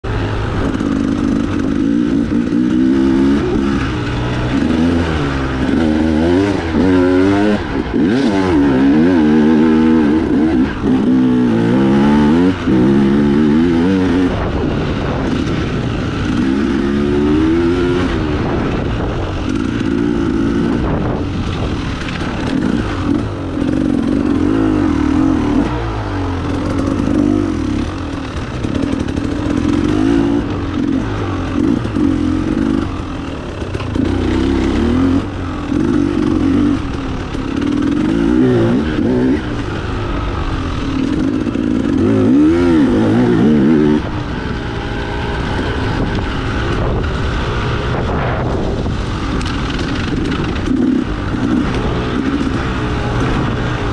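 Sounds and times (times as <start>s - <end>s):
dirt bike engine revving: 0.1s - 53.9s.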